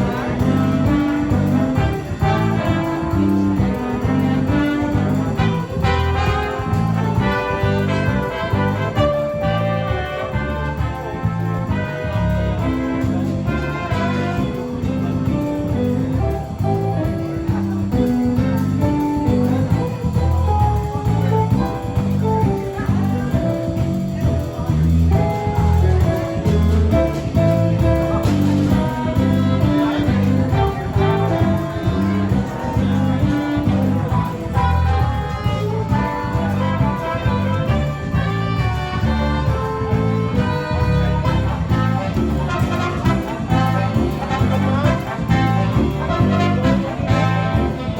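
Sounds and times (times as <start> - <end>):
jazzy instrumental music with brass: 0.0 - 47.9.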